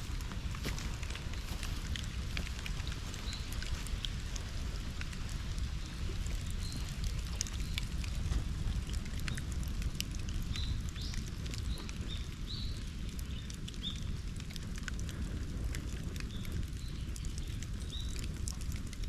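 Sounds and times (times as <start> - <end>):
bonfire crackling and popping: 0.0 - 19.0
low fire rumble: 0.0 - 19.0.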